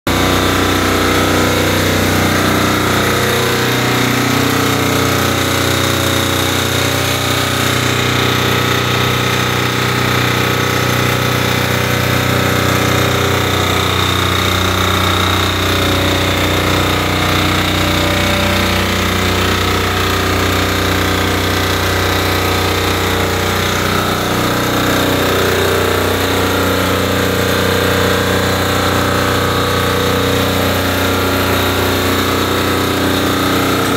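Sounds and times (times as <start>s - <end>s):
engine running steadily: 0.1s - 33.9s.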